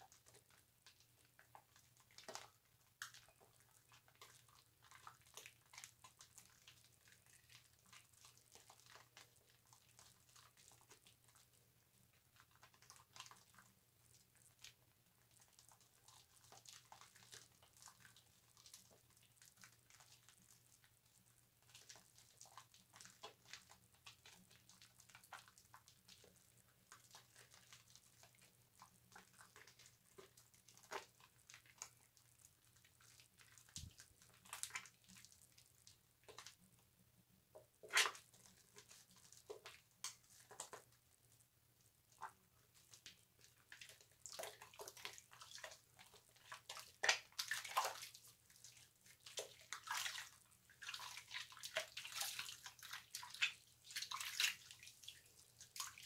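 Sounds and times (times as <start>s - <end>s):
water dripping: 0.0s - 56.0s
wet loofah squishing: 0.0s - 56.0s.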